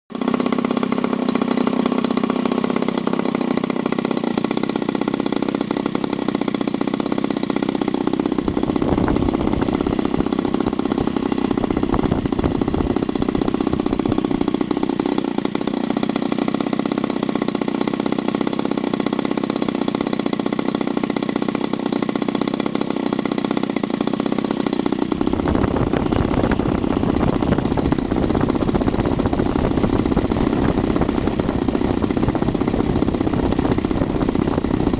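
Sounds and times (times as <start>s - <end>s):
model aircraft engine running: 0.1s - 34.9s.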